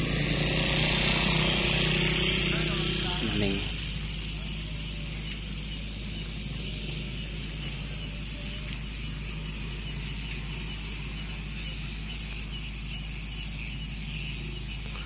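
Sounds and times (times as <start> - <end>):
outdoor background hum and hiss: 0.0 - 15.0.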